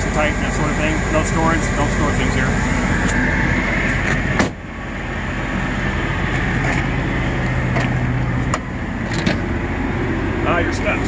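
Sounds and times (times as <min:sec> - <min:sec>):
steady machine drone: 0:00.0 - 0:11.0.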